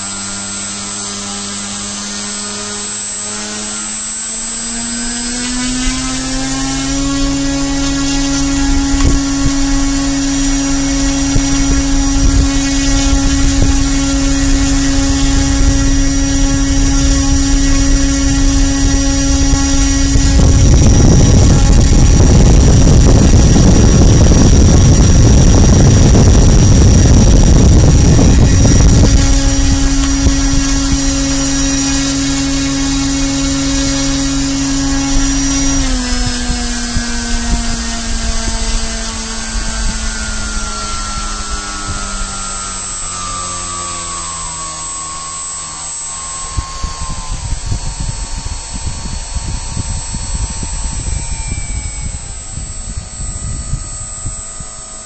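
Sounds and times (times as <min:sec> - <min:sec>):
electric motor whine: 0:00.0 - 0:55.0
propeller air rush: 0:00.0 - 0:55.0.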